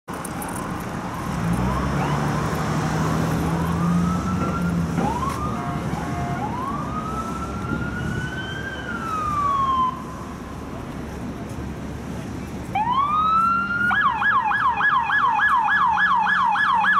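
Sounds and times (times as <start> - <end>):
police siren: 1.2 - 10.6, 12.7 - 16.9.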